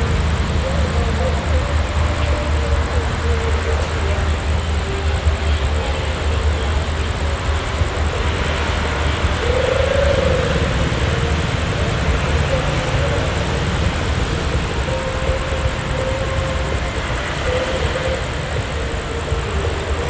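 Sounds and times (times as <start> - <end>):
faint whine: 0.0 - 20.0.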